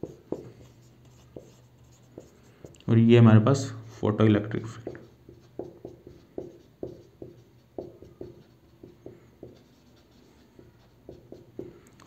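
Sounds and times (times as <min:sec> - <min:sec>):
marker pen writing on whiteboard: 0:00.0 - 0:02.9, 0:04.4 - 0:12.0.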